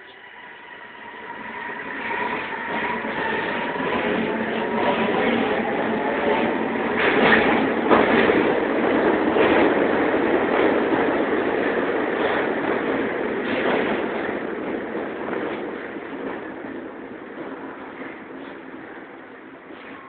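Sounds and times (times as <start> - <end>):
train wheels rumbling: 0.1 - 20.0.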